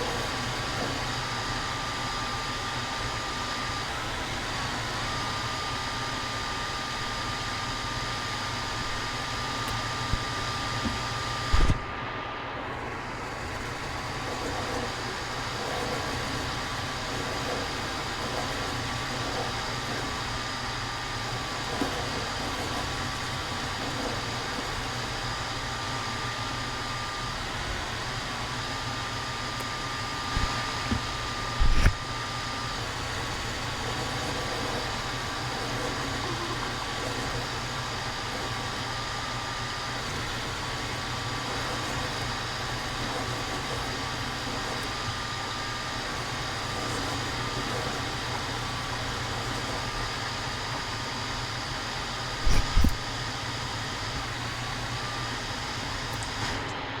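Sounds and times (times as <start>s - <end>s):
machine humming with whine: 0.0s - 57.0s.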